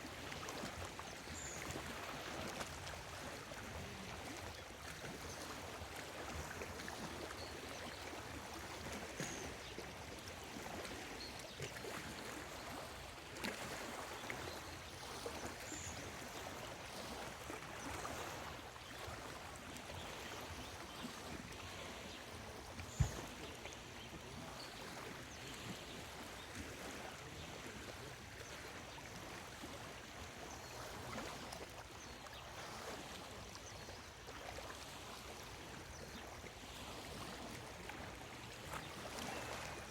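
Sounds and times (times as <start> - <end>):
waves lapping at shore: 0.0 - 39.9.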